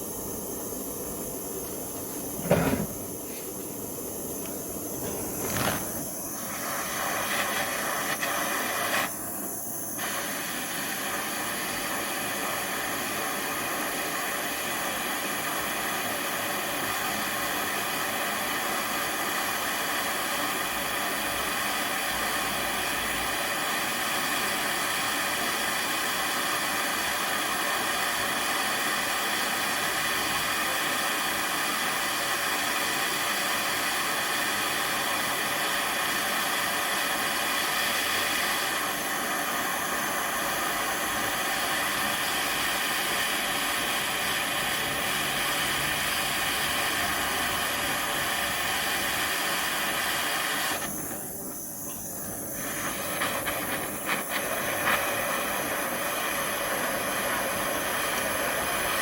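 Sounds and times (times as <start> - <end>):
gas burner flame hissing: 0.0 - 59.0.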